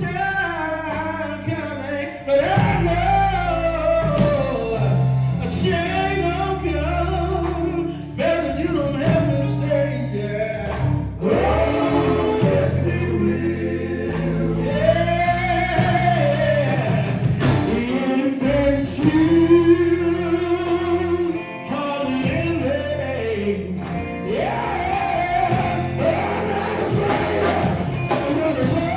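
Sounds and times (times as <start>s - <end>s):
live band playing: 0.0s - 28.9s
male vocal group singing gospel: 0.0s - 28.9s.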